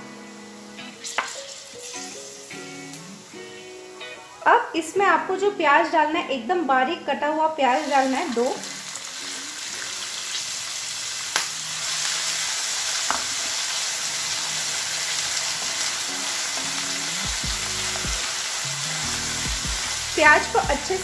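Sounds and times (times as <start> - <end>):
onion sizzling in hot oil: 0.0 - 5.4, 7.6 - 21.0.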